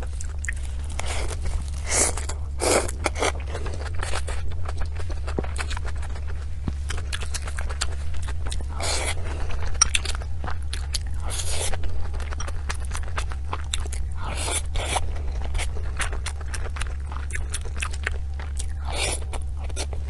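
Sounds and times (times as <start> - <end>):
low hum: 0.0 - 20.0
chewing with wet mouth clicks: 0.1 - 0.6, 2.2 - 20.0.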